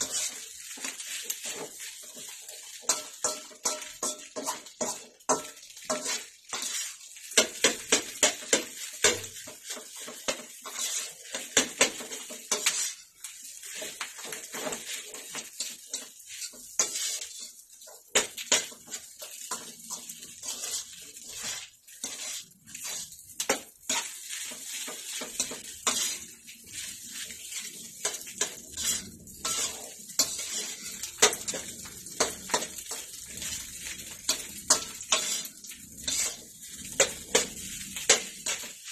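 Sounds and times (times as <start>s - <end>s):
rice sizzling in oil: 0.0s - 38.9s
spatula scraping a wok: 0.0s - 38.9s.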